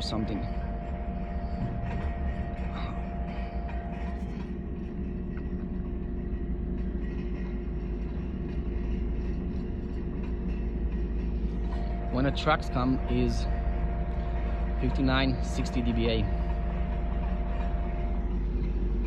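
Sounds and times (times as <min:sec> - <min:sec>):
drilling rig droning hum: 0:00.0 - 0:19.0.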